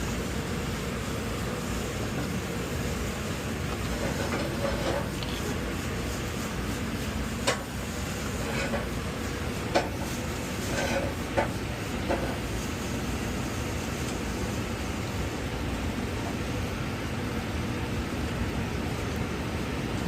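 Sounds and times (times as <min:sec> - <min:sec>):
steady machinery noise: 0:00.0 - 0:20.0.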